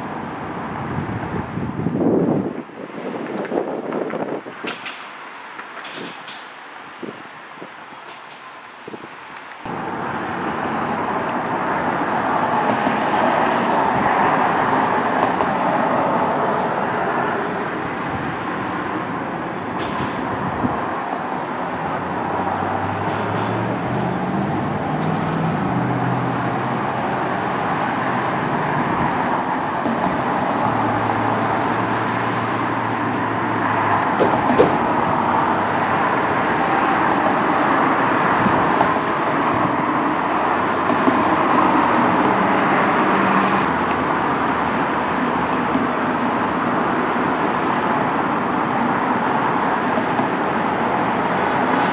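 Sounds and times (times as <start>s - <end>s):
outdoor traffic noise: 0.0s - 51.9s.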